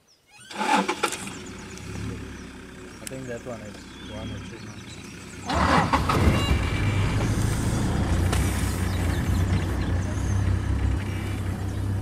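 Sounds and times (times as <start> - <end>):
vehicle engine idling: 1.0 - 12.0.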